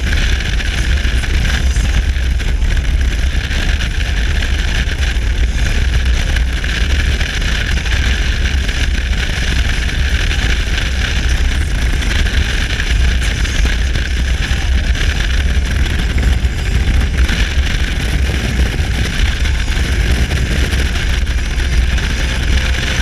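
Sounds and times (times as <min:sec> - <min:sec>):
motorcycle engine rumble: 0:00.0 - 0:23.0
wind rush over microphone: 0:00.0 - 0:23.0.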